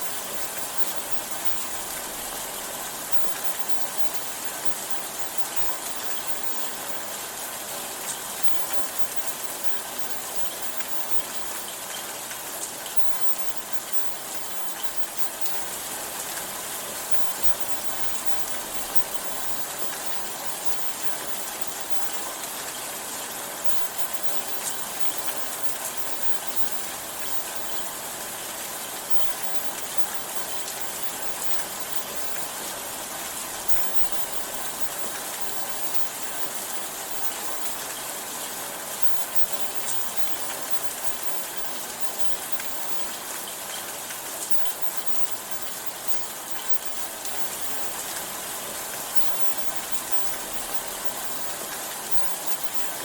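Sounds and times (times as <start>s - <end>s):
raindrops ticking: 0.0s - 53.0s
steady rain falling: 0.0s - 53.0s.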